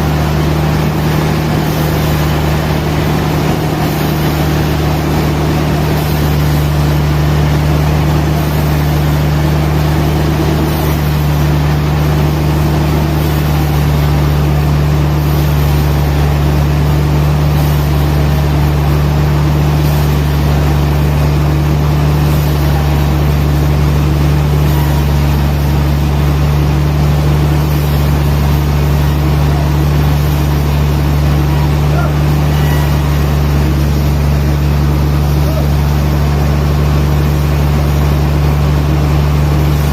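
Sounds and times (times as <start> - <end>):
heavy machinery droning: 0.0 - 39.9.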